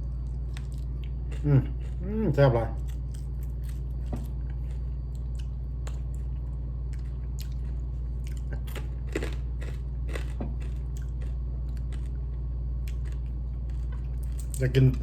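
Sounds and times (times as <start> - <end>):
chewing and mouth clicks: 0.0 - 2.0, 2.7 - 14.6
steady low hum: 0.0 - 15.0.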